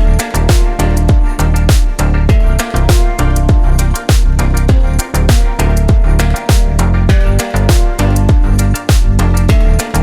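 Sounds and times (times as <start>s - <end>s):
electronic dance music: 0.0s - 10.0s
kick drums with deep bass: 0.0s - 10.0s.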